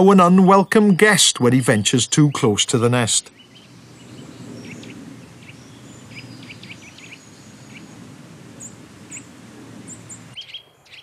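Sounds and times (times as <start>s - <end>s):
low background noise: 0.0s - 11.0s
birds giving sharp alarm calls: 1.8s - 11.0s.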